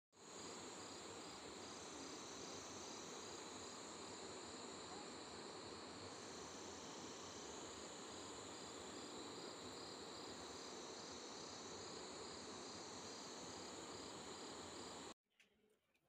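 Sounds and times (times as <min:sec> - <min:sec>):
insect chirring: 0:00.2 - 0:15.1
even hiss: 0:00.2 - 0:15.2.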